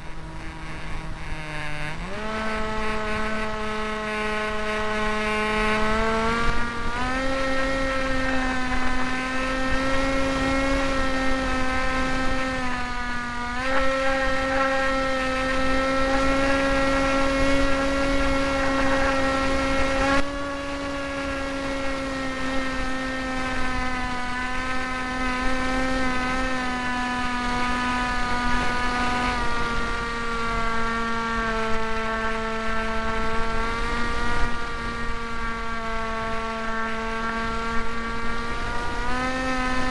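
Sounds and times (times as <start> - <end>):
rc plane motor whine: 0.0 - 39.9.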